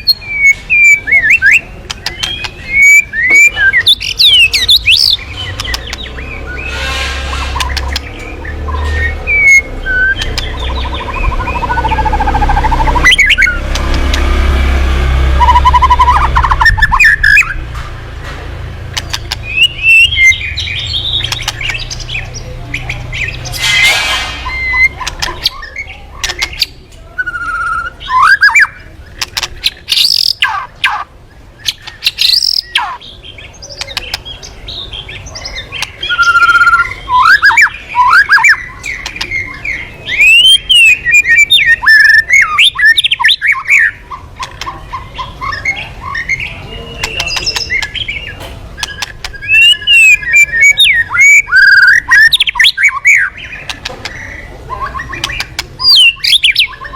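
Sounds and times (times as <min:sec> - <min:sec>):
songbird singing: 0:00.0 - 0:56.9.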